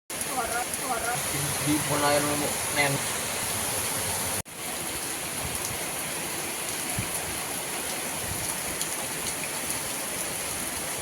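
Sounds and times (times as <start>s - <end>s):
rain and wind in pine trees: 0.1s - 11.0s.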